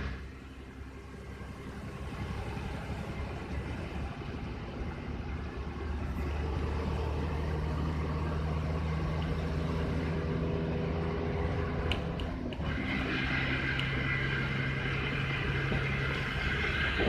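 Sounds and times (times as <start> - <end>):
vehicle engine and tyre noise: 0.0 - 17.0.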